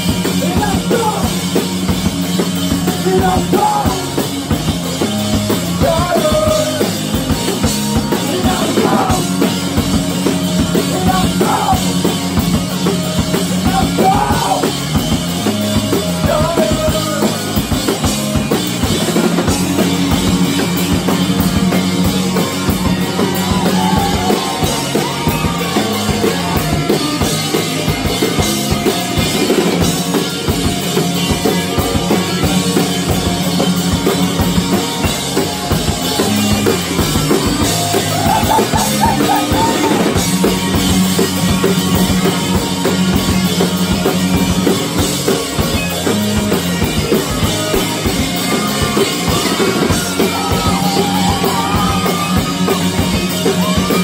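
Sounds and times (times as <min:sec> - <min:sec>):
bass guitar: 0:00.0 - 0:54.0
drum kit beat: 0:00.0 - 0:54.0
electric guitars: 0:00.0 - 0:54.0.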